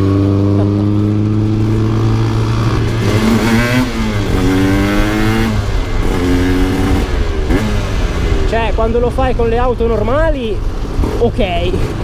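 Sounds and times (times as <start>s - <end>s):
motorcycle engine revving: 0.0s - 12.0s
wind noise: 0.0s - 12.0s.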